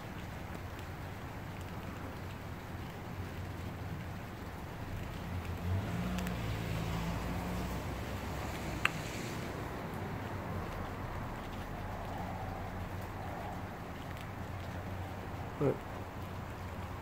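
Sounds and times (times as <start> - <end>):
heavy rain on pavement and cars: 0.0 - 17.0.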